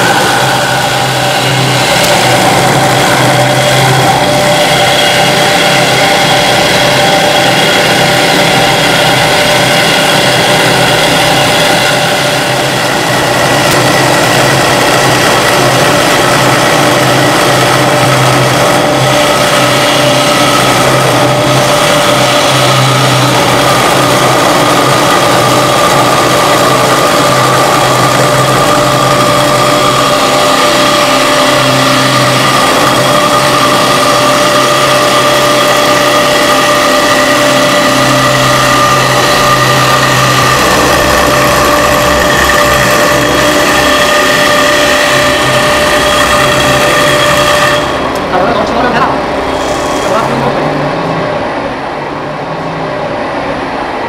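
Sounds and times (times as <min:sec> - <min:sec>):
low hum: 0:00.0 - 0:54.0
motor whine: 0:00.0 - 0:54.0.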